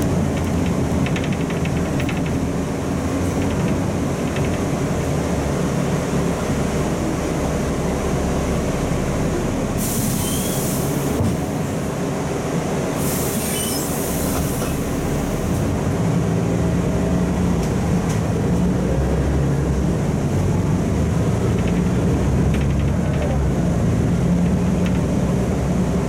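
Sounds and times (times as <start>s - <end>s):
bus engine rumble: 0.0s - 26.0s.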